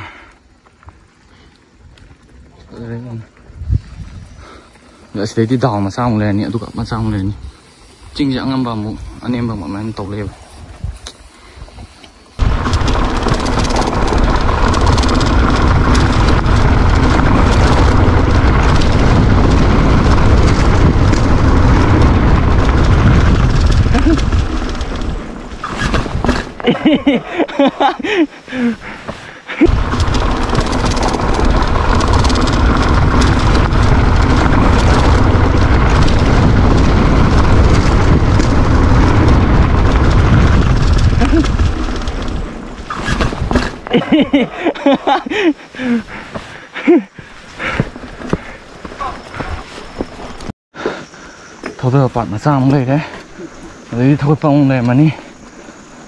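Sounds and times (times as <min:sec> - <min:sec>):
bike tyre rumble on dirt: 0:00.0 - 0:56.0
wind buffeting microphone: 0:01.8 - 0:04.7, 0:05.3 - 0:56.0.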